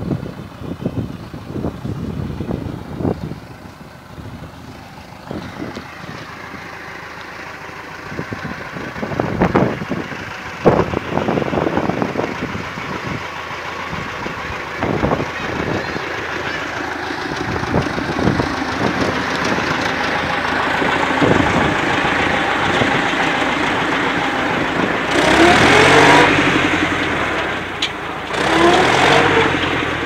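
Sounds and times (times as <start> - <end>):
tractor engine running: 0.0 - 30.0
tractor bumping over rough ground: 0.1 - 30.0.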